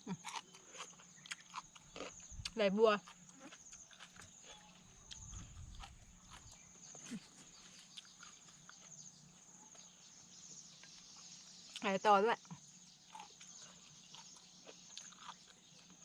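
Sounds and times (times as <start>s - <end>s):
person chewing crunchy food: 0.0s - 9.9s, 13.0s - 16.0s.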